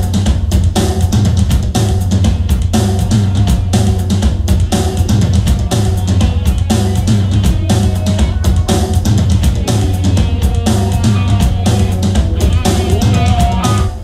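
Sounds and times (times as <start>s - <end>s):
music with drum beat and heavy bass: 0.0s - 14.0s.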